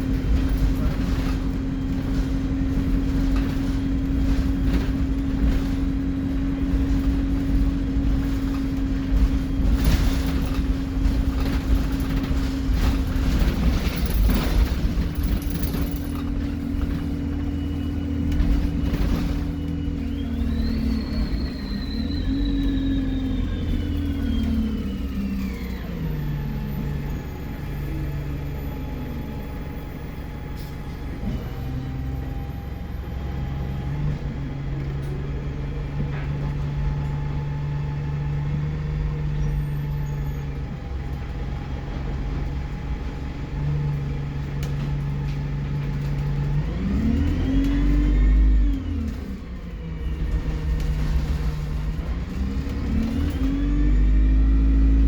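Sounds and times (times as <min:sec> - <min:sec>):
diesel bus engine: 0:00.0 - 0:55.0.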